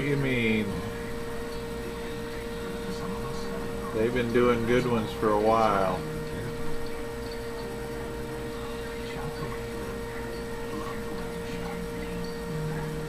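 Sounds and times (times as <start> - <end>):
constant mid-pitched tone: 0.0 - 13.0
room hum: 0.0 - 13.0.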